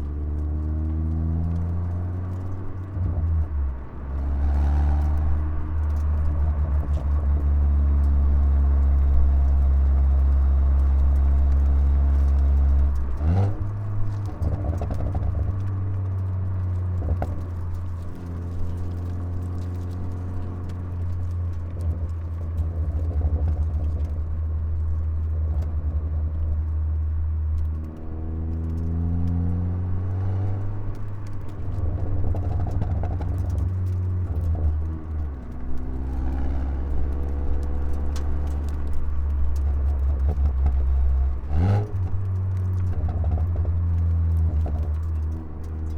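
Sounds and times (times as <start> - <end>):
exhaust pops: 0.0 - 45.9.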